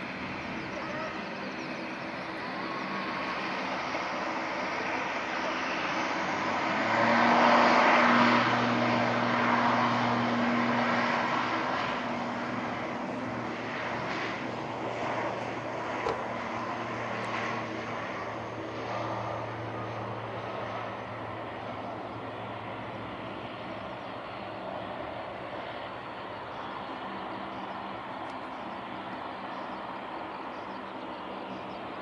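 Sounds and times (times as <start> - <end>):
jet airliner engine roar: 0.0 - 32.0.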